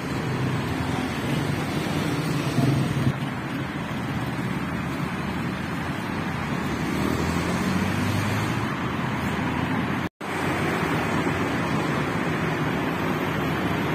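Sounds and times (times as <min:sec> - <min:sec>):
heavy engine rumble: 0:00.0 - 0:07.8, 0:08.4 - 0:13.9
cars driving past: 0:00.0 - 0:13.9.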